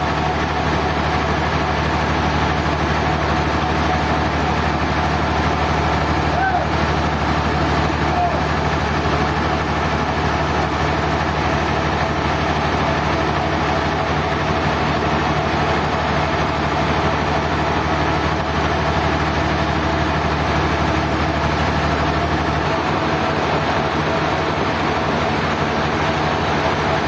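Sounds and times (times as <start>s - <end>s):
sawmill machinery drone: 0.0s - 27.0s.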